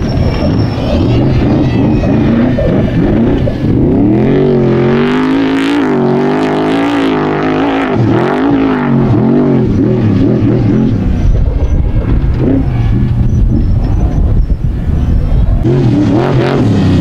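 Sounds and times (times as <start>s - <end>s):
race truck engine revving: 0.0s - 17.0s.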